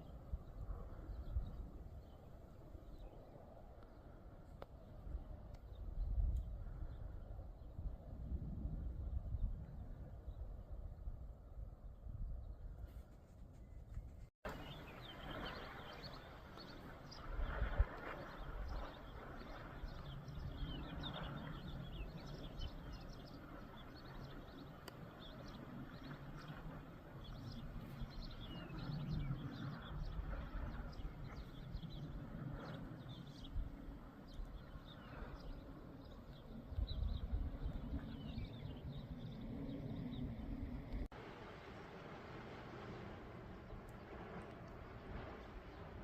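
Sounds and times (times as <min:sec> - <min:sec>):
wind rumble on microphone: 0:00.0 - 0:46.0.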